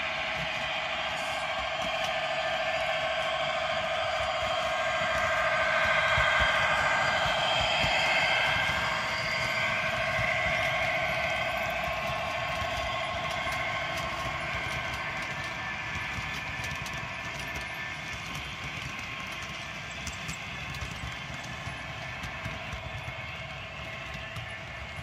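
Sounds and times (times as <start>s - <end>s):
wheels clicking on track: 0.0s - 25.0s
model wagon wheels rumbling: 0.1s - 25.0s.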